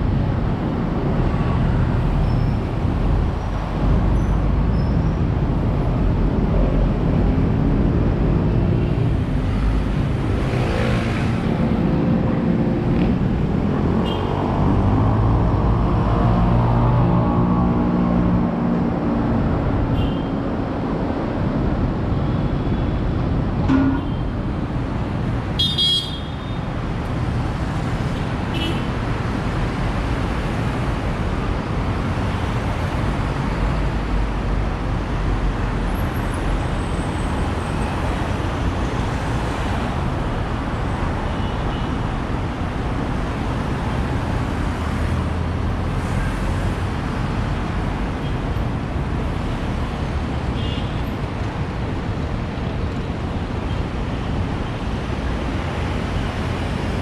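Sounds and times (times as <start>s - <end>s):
cars and buses passing: 0.0s - 57.0s.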